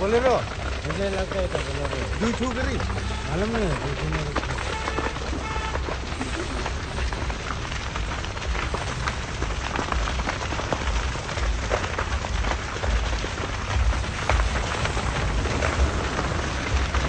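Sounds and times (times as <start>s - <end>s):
fire crackling and popping: 0.0s - 17.0s
low rumble: 0.0s - 17.0s.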